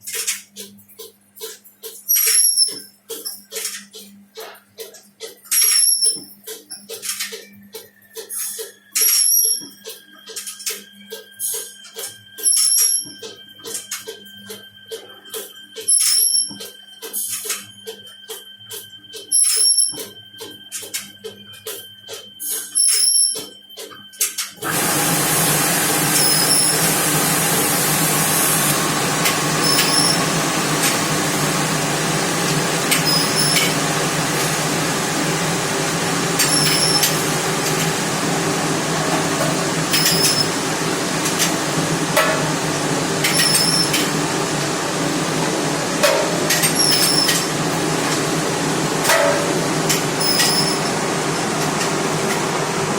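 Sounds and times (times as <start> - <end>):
dishwasher low hum: 0.0 - 52.9.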